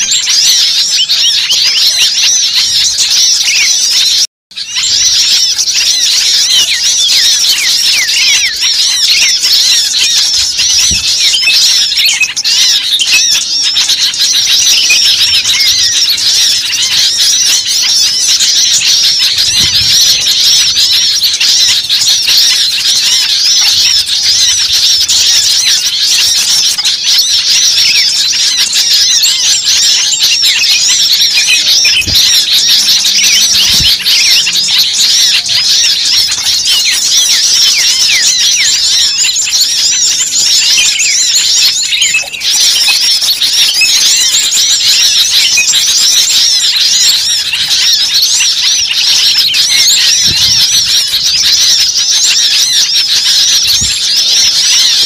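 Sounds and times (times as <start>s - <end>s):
small birds chirping chorus: 0.0s - 55.0s.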